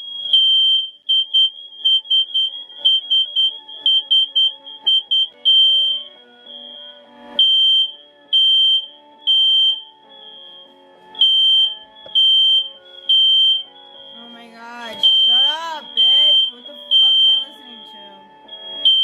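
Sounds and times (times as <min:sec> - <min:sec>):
fire alarm beeping: 0:00.0 - 0:19.0
quiet music: 0:00.0 - 0:19.0.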